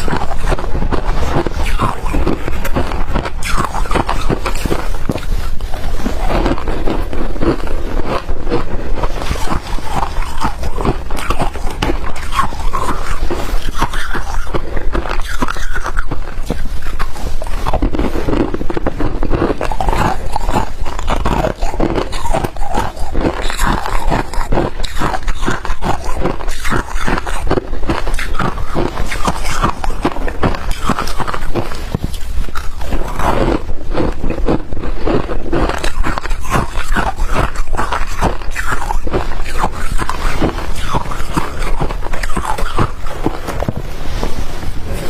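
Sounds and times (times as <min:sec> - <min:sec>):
chewing ice crunches: 0:00.0 - 0:45.0.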